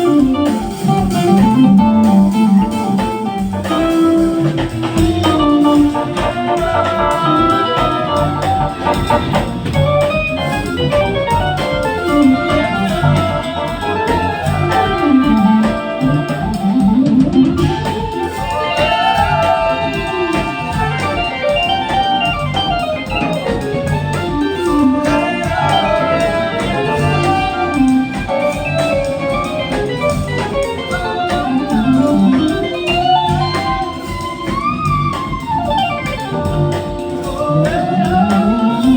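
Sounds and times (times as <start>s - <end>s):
guitar with bending notes: 0.0s - 38.9s
organ playing: 0.0s - 38.9s.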